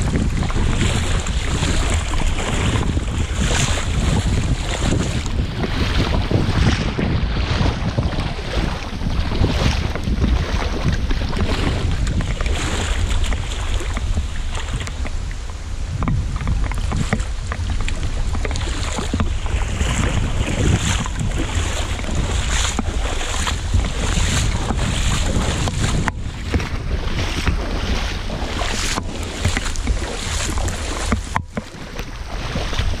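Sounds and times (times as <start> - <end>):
boots splashing through water: 0.0 - 33.0
wind buffeting microphone: 0.0 - 33.0.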